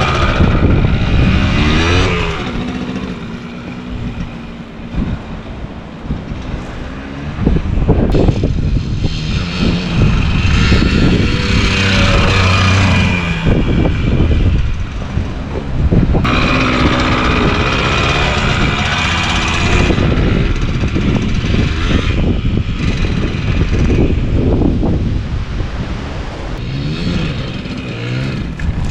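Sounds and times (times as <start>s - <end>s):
two-stroke engine revving: 0.0s - 4.8s, 6.8s - 15.0s, 16.2s - 24.5s, 26.6s - 28.9s.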